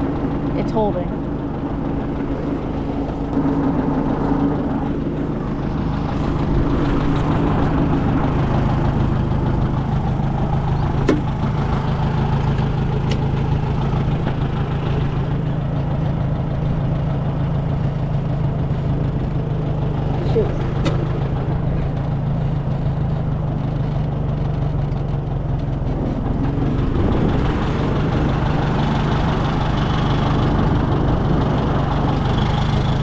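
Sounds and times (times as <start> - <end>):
tractor engine idling: 0.0 - 33.0.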